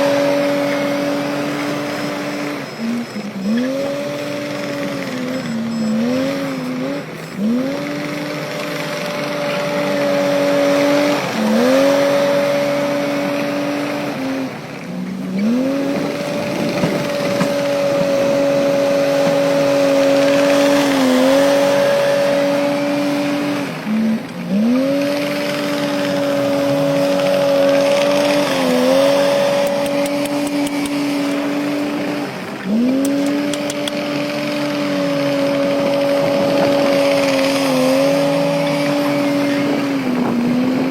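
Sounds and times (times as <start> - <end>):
heavy diesel engine working hard: 0.0 - 40.9.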